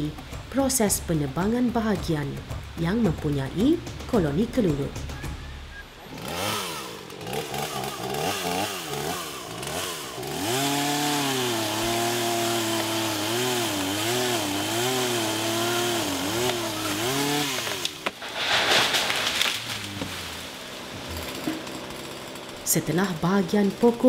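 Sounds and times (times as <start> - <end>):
chainsaw cutting branches: 3.5 - 24.0.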